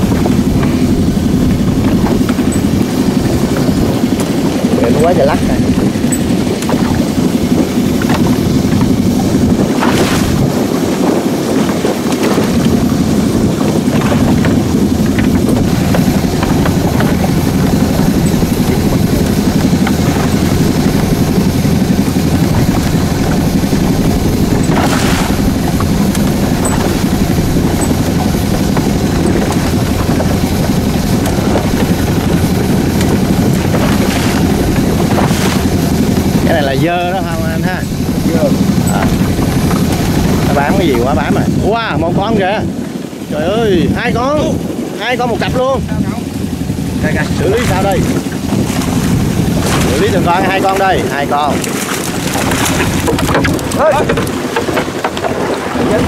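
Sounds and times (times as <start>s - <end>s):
boat engine running: 0.0s - 56.0s
water slapping against hull: 0.0s - 56.0s
wind buffeting microphone: 0.0s - 56.0s.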